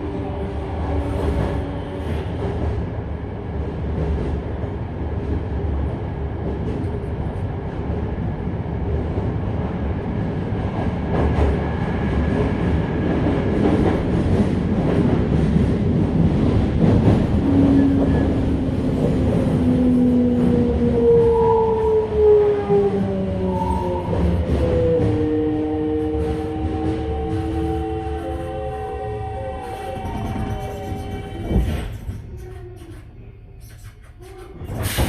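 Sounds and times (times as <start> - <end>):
train wheel and running noise: 0.0 - 35.0.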